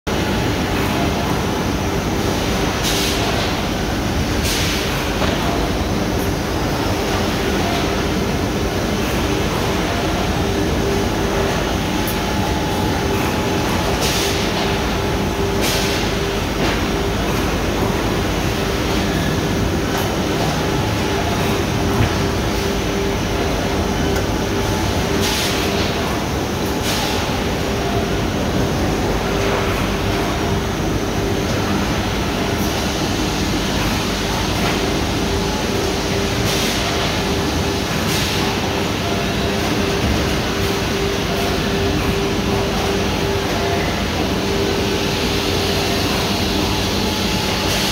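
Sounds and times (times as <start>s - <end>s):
robot arm and conveyors humming: 0.1s - 47.9s.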